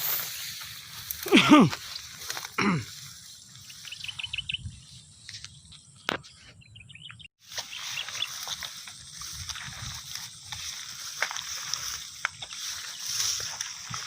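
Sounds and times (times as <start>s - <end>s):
small birds chirping: 1.8s - 14.0s.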